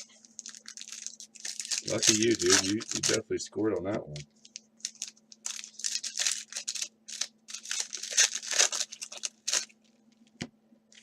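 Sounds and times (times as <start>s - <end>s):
foil wrappers crinkling and tearing: 0.0s - 3.2s, 3.9s - 10.0s.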